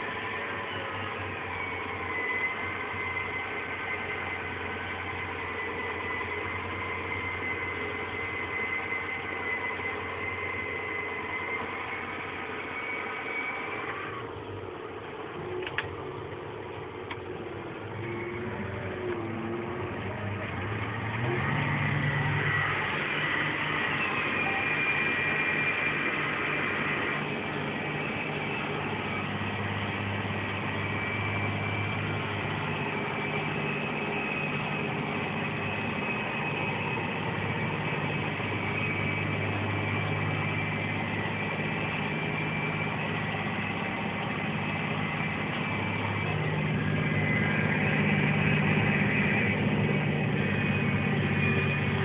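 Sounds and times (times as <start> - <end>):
high steady whine: 0.0 - 52.0
tractor engine running: 0.0 - 52.0.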